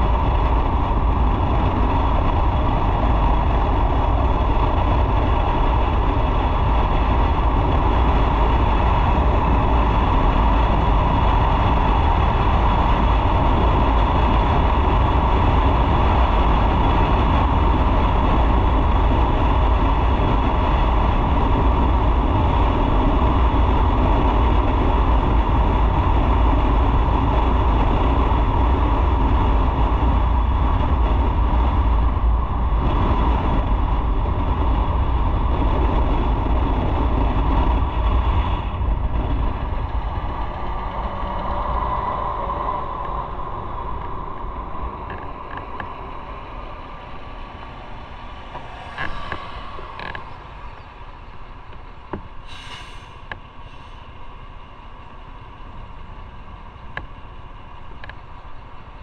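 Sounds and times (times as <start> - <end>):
wind rushing on microphone: 0.0 - 59.0.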